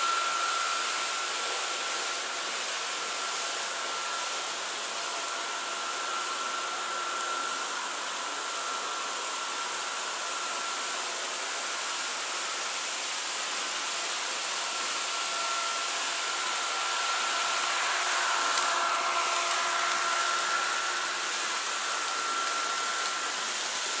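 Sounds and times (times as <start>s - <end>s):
model trains whirring: 0.0s - 24.0s.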